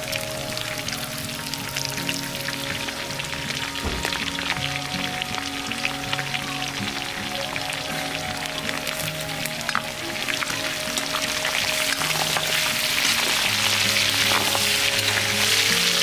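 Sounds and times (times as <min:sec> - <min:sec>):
meat sizzling in a wok: 0:00.0 - 0:16.0.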